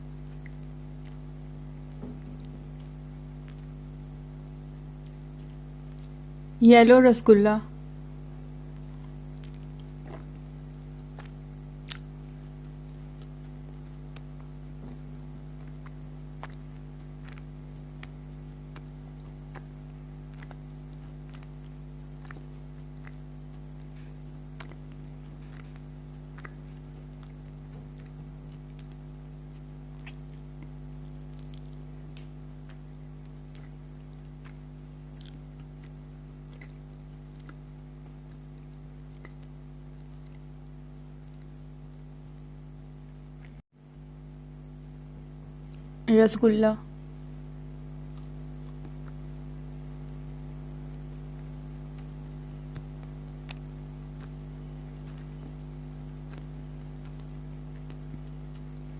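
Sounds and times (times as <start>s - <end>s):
chewing and wet mouth sounds: 0.0s - 6.3s, 8.4s - 43.6s, 45.6s - 46.0s, 47.2s - 58.9s
low electrical hum: 0.0s - 58.9s.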